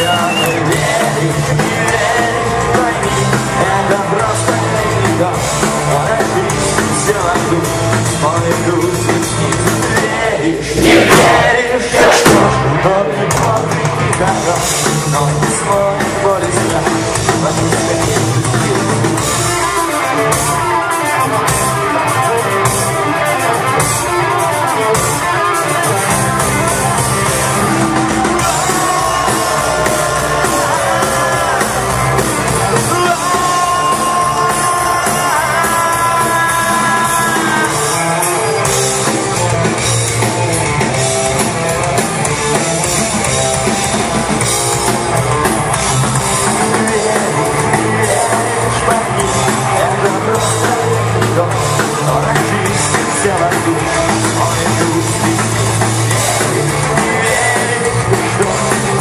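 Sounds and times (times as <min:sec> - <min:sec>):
drum kit: 0:00.0 - 0:59.0
rock guitars: 0:00.0 - 0:59.0.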